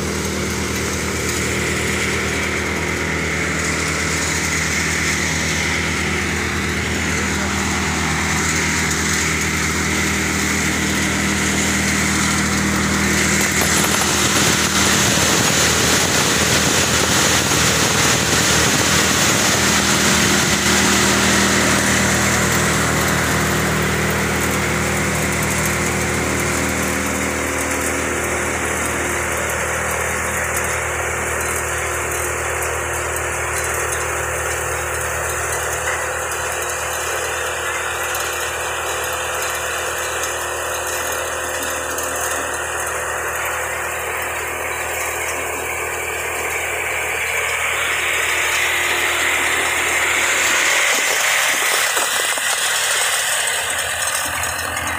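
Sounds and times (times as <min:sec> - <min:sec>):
thresher machine drone: 0:00.0 - 0:54.9.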